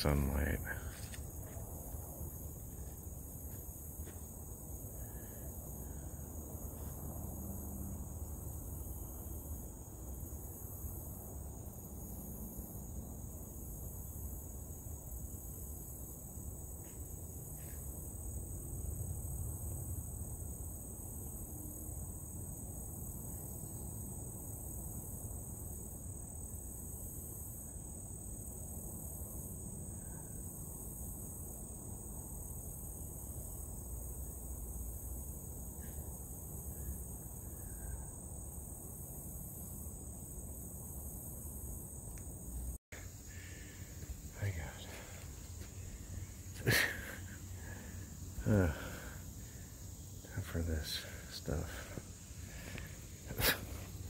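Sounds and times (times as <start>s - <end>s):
crickets and katydids trilling: 0.0s - 54.0s.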